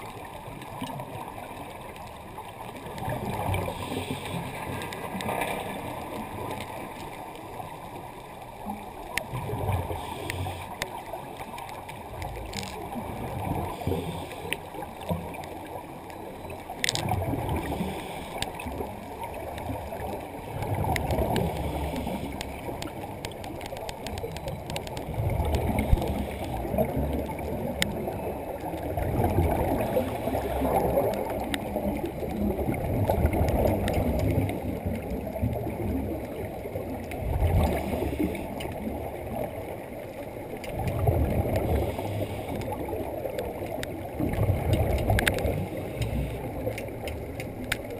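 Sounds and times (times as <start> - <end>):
underwater bubbles gurgling: 0.0 - 47.9.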